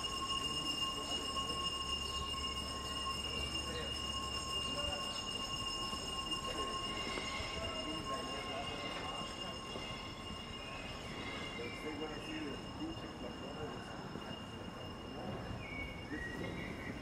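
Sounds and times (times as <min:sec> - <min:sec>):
faint voices: 0:00.0 - 0:17.0
high-pitched whine: 0:00.0 - 0:17.0.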